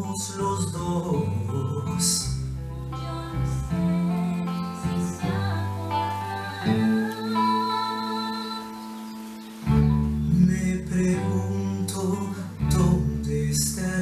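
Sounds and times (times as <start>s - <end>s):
person singing: 0.0s - 14.0s
slow instrumental held chords: 0.0s - 14.0s.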